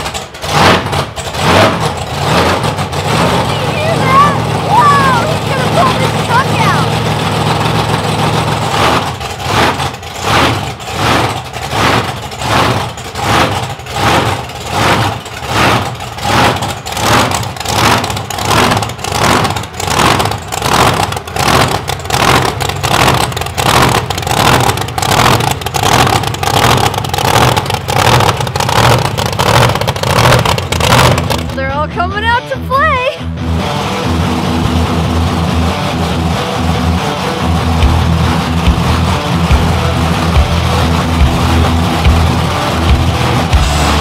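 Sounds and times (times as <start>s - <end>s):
monster truck engine idling: 0.0s - 44.0s.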